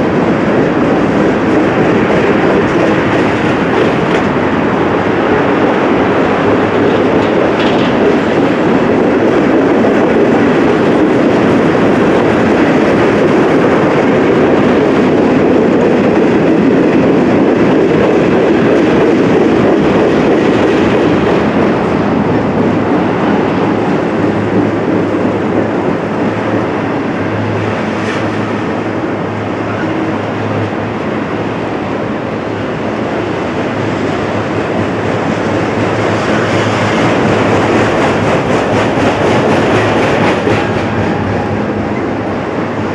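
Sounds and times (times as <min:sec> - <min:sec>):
freight train wheels clattering: 0:00.0 - 0:42.9.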